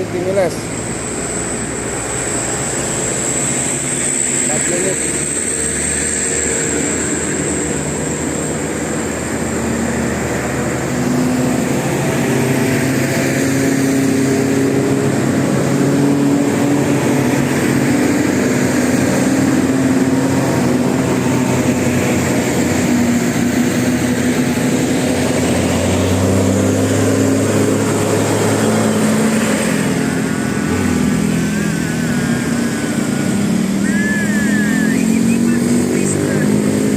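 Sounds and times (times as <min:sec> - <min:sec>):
bus engines running: 0:00.0 - 0:36.9.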